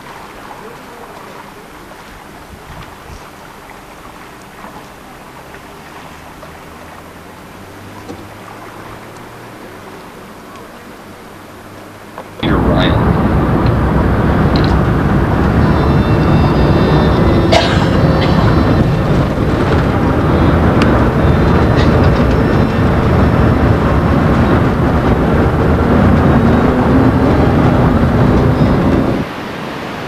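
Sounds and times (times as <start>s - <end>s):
road and engine rumble inside vehicle: 1.9s - 30.0s.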